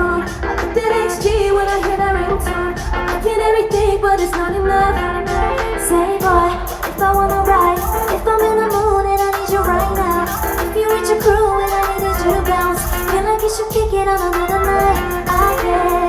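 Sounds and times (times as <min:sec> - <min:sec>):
live pop song with female vocals: 0:00.0 - 0:16.0.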